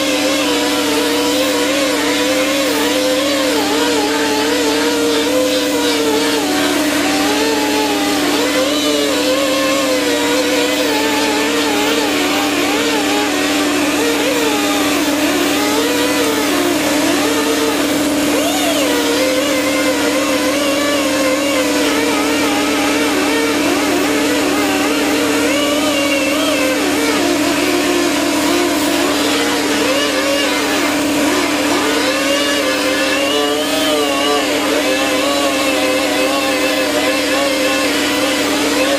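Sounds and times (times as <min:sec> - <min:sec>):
power tool grinding metal: 0:00.0 - 0:38.9.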